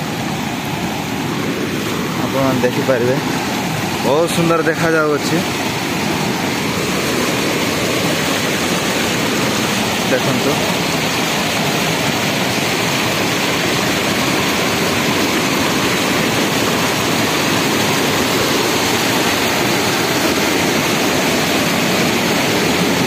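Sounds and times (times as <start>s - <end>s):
floodwater rushing over dam: 0.0s - 23.0s.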